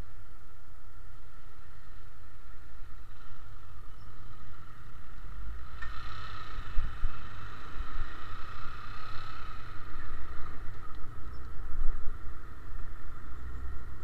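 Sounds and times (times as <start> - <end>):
muffled motorcycle engine rumble: 0.0 - 14.0.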